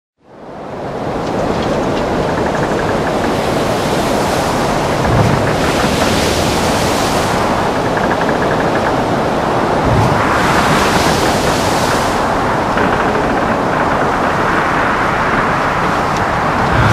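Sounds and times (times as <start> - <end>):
wind roaring: 0.3 - 16.9
churning water: 0.7 - 16.9
wave hitting with low thump: 2.1 - 16.9.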